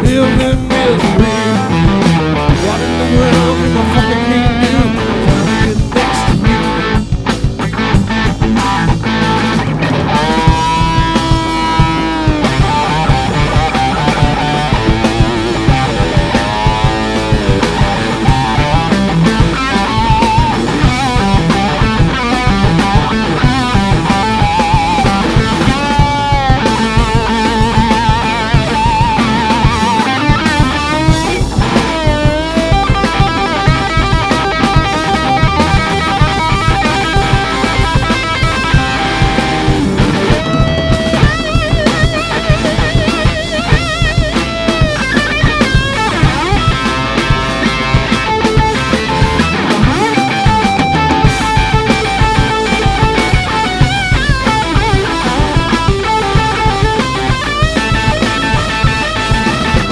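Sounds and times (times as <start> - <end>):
bass guitar: 0.0 - 59.9
drum kit: 0.0 - 59.9
electric guitar solo: 0.0 - 59.9.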